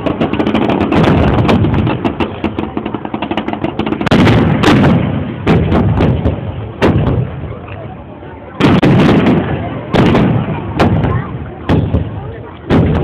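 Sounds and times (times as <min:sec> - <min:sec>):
fireworks booms: 0:00.0 - 0:07.7, 0:08.5 - 0:13.0
fireworks crackling bangs: 0:00.0 - 0:13.0.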